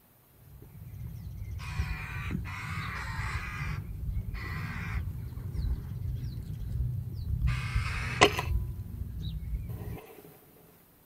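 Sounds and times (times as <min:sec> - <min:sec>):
steady low rumble: 0:00.0 - 0:10.6
magpie chattering: 0:00.5 - 0:10.0.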